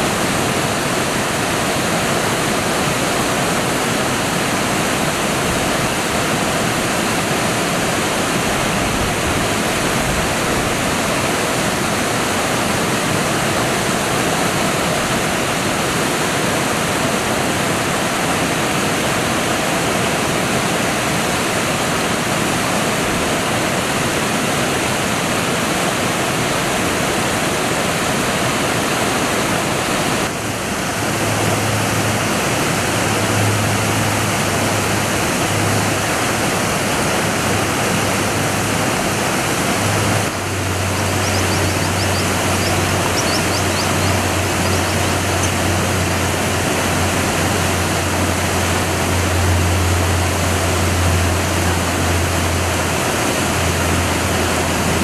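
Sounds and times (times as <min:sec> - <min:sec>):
whitewater rapids rushing: 0:00.0 - 0:55.0.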